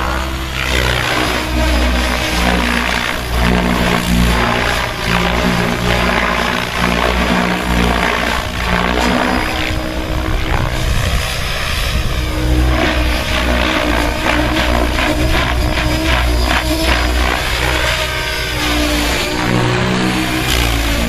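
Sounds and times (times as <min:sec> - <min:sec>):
model helicopter motor whine: 0:00.0 - 0:21.0.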